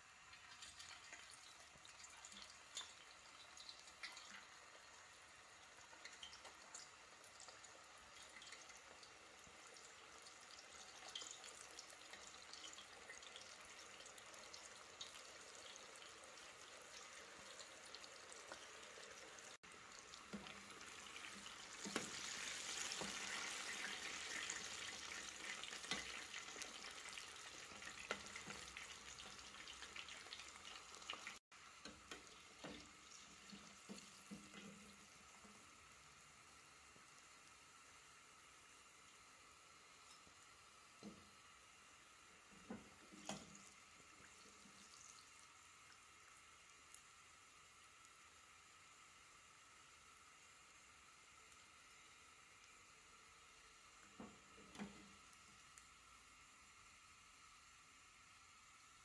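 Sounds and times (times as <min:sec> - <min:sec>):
chips frying in hot oil: 0:00.0 - 0:59.0.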